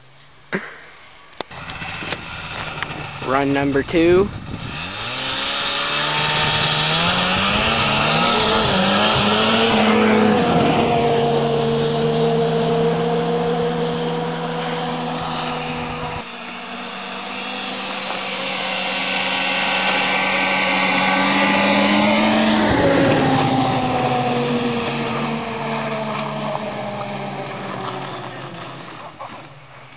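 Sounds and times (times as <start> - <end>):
snowmobile engine revving: 1.5 - 29.9.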